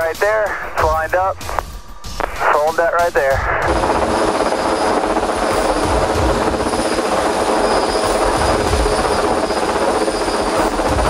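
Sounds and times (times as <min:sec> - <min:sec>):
helicopter high whine: 0:00.0 - 0:11.0
helicopter rotor beating: 0:00.0 - 0:11.0.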